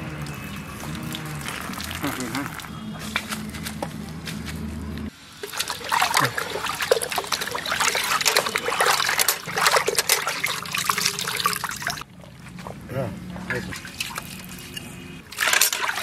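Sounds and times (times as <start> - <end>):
water splashing in a metal bucket: 0.0 - 3.3, 5.2 - 12.1, 13.2 - 16.0.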